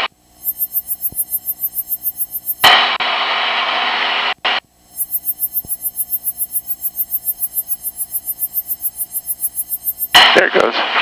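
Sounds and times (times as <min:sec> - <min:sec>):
radio static hiss: 0:00.0 - 0:11.0
rapid pulsing cockpit noise: 0:00.0 - 0:11.0.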